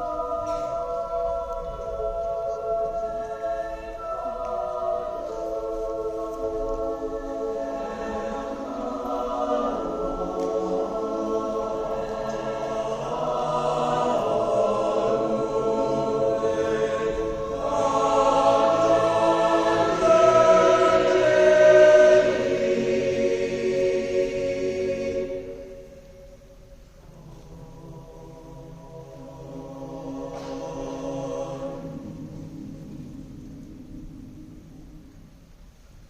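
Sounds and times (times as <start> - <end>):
choir singing sustained chords: 0.0 - 36.0.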